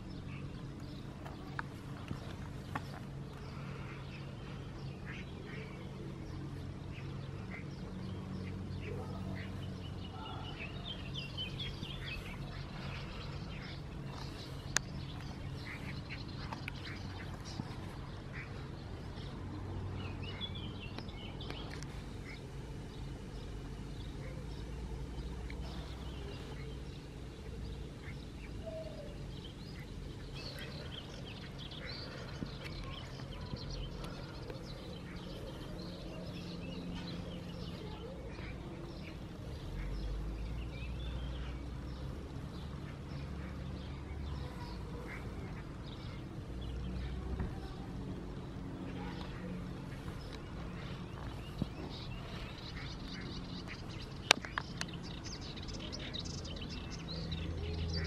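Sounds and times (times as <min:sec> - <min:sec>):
steady low hum: 0:00.0 - 0:57.7
birds calling and chirping: 0:00.0 - 0:58.0.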